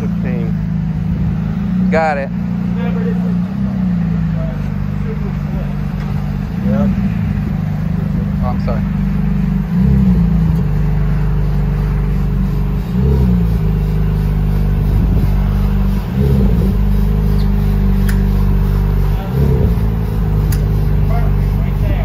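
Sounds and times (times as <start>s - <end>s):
car engine at low revs: 0.0s - 22.0s
light throttle blips: 0.0s - 22.0s.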